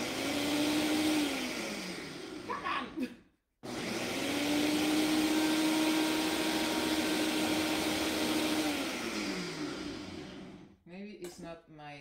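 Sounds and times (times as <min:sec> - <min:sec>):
blender motor running: 0:00.0 - 0:03.0, 0:03.6 - 0:10.8.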